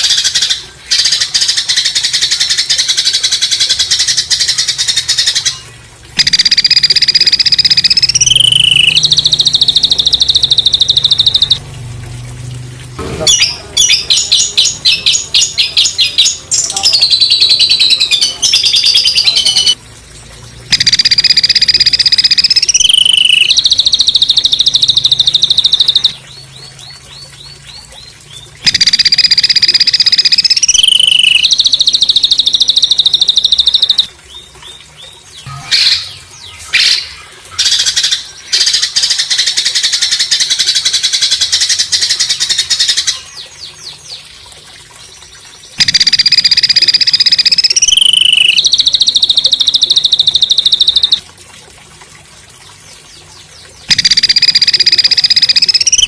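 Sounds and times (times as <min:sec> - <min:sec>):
songbird buzzy trills: 0:00.0 - 0:11.6, 0:13.2 - 0:19.8, 0:20.4 - 0:44.2, 0:45.6 - 0:51.2, 0:53.2 - 0:56.0.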